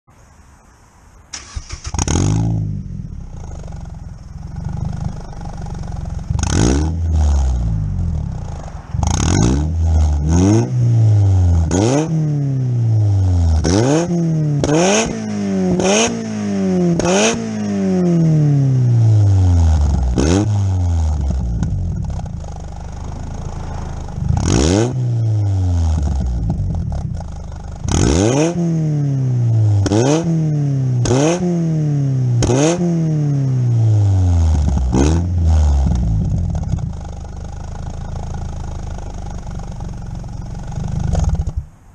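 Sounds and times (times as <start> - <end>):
car engine idling and revving: 1.3 - 41.9
car engine starting: 1.3 - 41.9.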